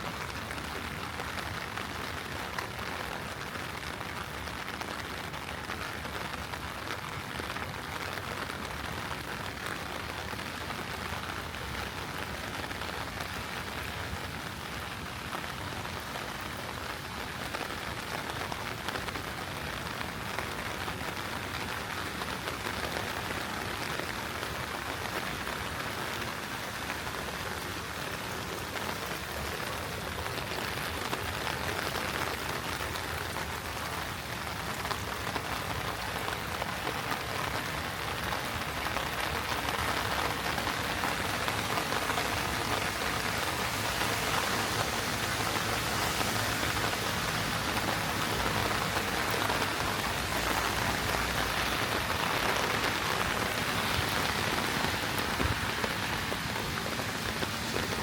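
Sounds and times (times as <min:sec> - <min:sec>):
heavy rain spattering: 0:00.1 - 0:58.0.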